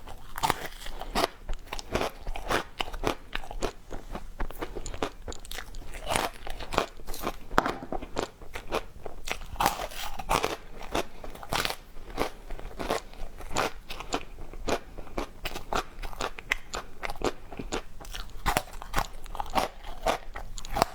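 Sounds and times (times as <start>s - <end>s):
ice crunching being chewed: 0.0s - 20.9s.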